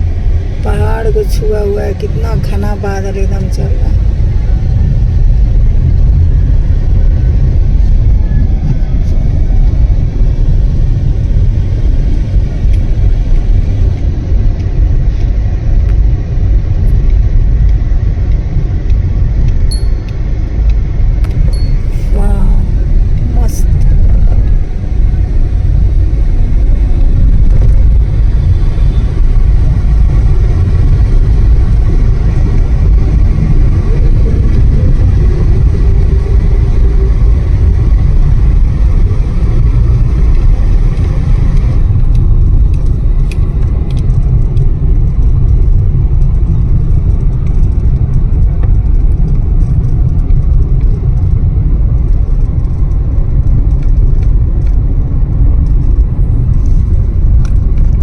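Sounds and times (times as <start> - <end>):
loud low rumble: 0.0 - 58.0.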